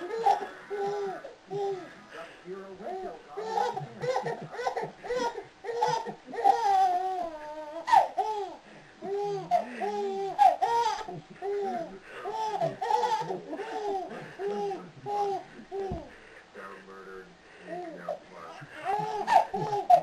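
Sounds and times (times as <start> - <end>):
baby laughing: 0.0 - 2.0, 2.9 - 16.2, 17.7 - 20.0.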